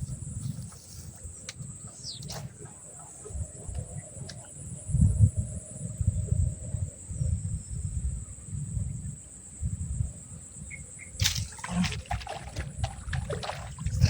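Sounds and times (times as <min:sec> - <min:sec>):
high insect drone: 0:00.0 - 0:14.0
wind rumbling on microphone: 0:00.0 - 0:14.0.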